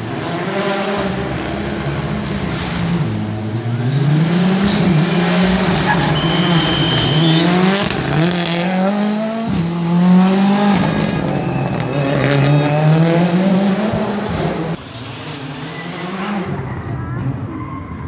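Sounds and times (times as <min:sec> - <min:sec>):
rally car engine accelerating: 0:00.0 - 0:17.7.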